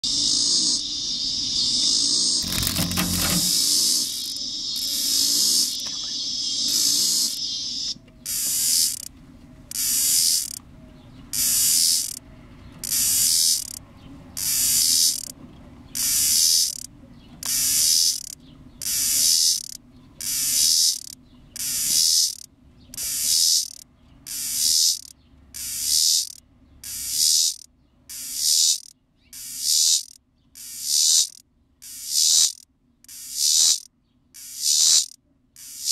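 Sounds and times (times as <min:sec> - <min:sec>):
cicada pulsed buzzing: 0:00.0 - 0:09.1, 0:09.7 - 0:10.6, 0:11.3 - 0:12.2, 0:12.8 - 0:13.8, 0:14.4 - 0:15.3, 0:16.0 - 0:35.9
continuous cicada buzz: 0:00.0 - 0:10.7, 0:11.3 - 0:35.9.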